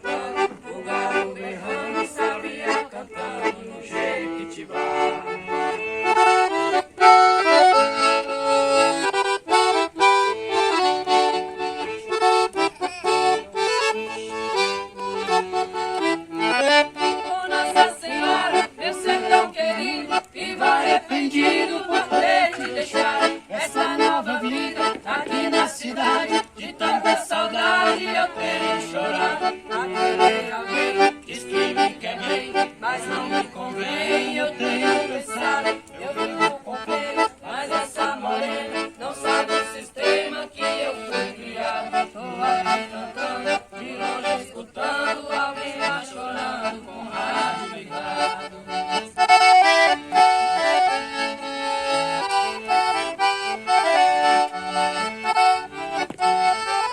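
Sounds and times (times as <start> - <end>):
accordion playing: 0.0 - 56.9.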